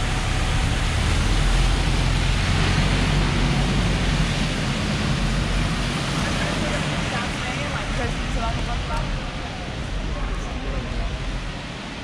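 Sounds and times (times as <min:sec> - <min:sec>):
light rain: 0:00.0 - 0:12.0
tyres hissing on wet road: 0:00.0 - 0:12.0
vehicle engine rumbling: 0:00.0 - 0:12.0.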